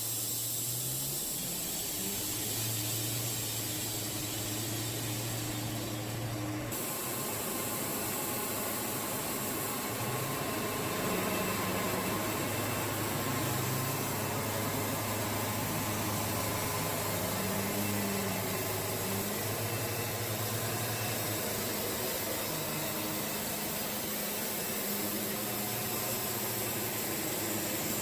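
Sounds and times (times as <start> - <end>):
band sawmill running: 0.0 - 28.0.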